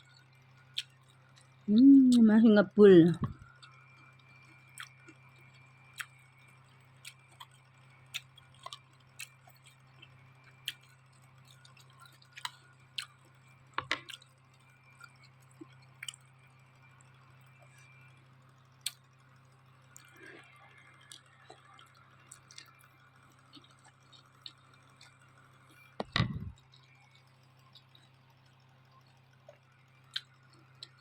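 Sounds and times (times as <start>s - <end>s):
steady low hum: 0.0s - 31.0s
person chewing noodles: 0.1s - 1.7s, 3.2s - 18.1s, 18.8s - 19.1s, 19.9s - 28.4s, 29.4s - 31.0s.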